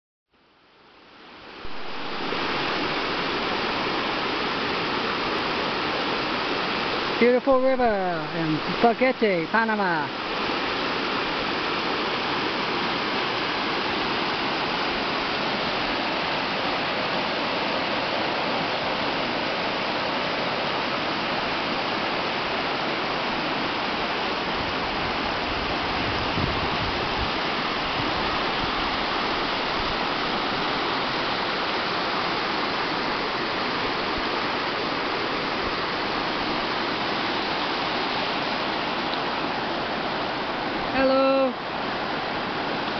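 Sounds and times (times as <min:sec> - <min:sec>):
river rushing over rocks: 0:00.4 - 0:42.9.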